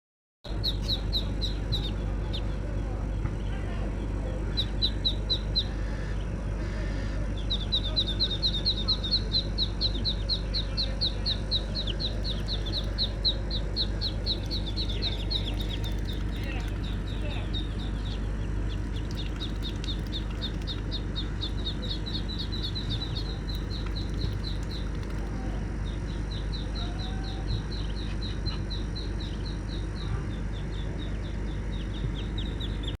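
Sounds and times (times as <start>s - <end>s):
ducklings peeping: 0.5s - 33.0s
low background noise: 0.5s - 33.0s
steady low hum: 0.5s - 33.0s.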